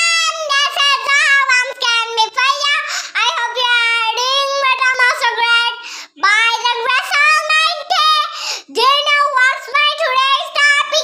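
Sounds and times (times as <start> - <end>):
girl singing high: 0.0 - 11.0.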